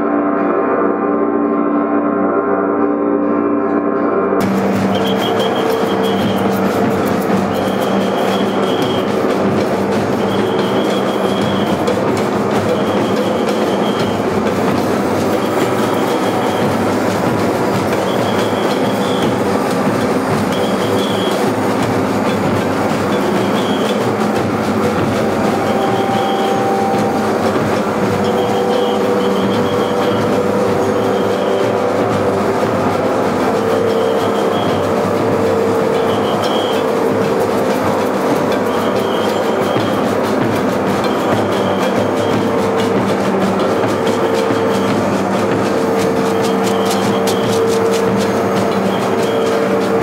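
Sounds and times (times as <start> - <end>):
sustained drone: 0.0 - 50.0
drums: 4.4 - 50.0.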